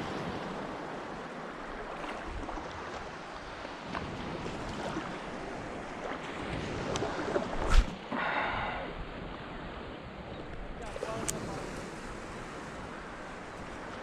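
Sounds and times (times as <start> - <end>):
water lapping around wading person: 0.0 - 14.0
wind on microphone: 1.9 - 14.0.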